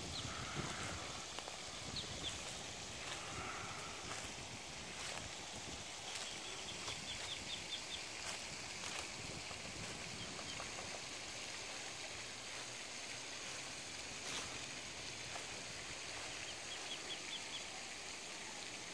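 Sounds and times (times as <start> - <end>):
fountain splashing: 0.0 - 18.9.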